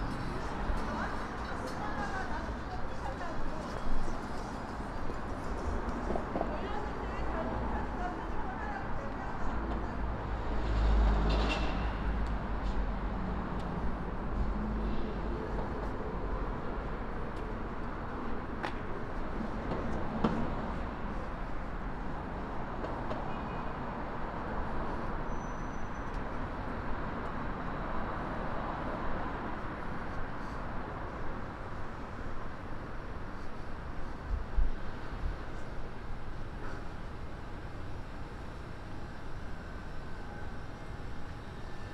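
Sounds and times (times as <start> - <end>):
traffic hum: 0.0 - 41.9.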